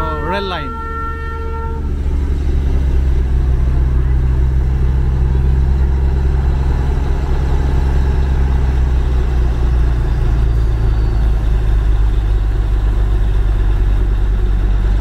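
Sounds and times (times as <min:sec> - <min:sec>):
locomotive engine idling: 0:00.0 - 0:15.0.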